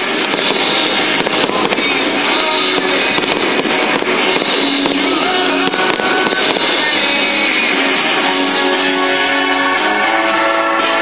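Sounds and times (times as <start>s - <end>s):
fireworks popping and crackling: 0.0s - 10.8s
loud rock music: 0.0s - 11.0s.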